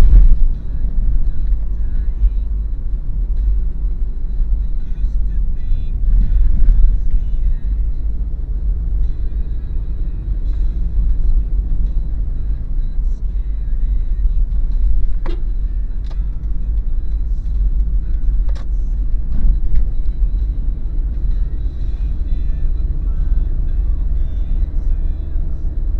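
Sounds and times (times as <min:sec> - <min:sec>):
car engine and tyres rumbling: 0:00.0 - 0:25.9.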